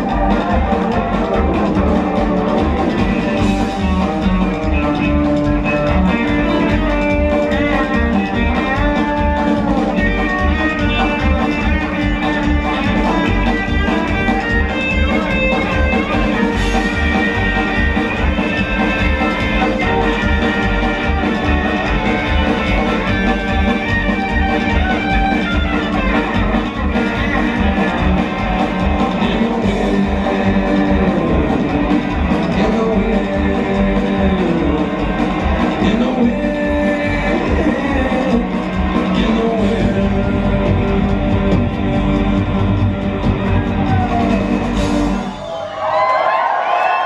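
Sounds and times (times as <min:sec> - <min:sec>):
upright bass: 0:00.0 - 0:45.3
electric guitar: 0:00.0 - 0:45.4
drums: 0:00.0 - 0:47.0.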